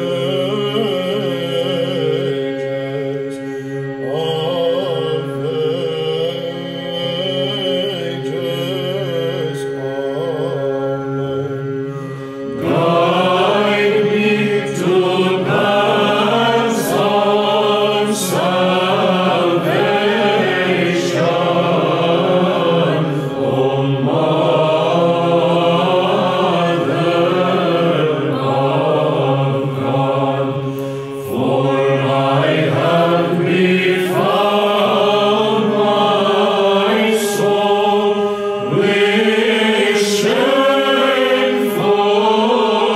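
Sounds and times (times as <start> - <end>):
choir chanting: 0.0 - 42.9
held vocal drone: 0.0 - 42.9
solo chanter singing: 0.0 - 42.9.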